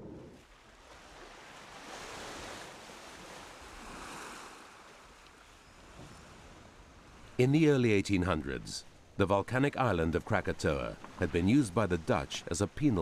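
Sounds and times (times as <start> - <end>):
sea waves washing: 0.0 - 13.0.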